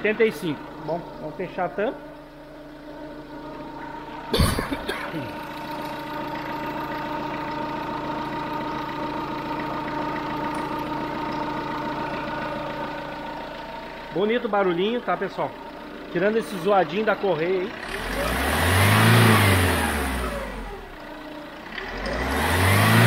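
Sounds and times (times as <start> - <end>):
drive belt whine: 0.0 - 23.0
engine idling: 0.0 - 23.0.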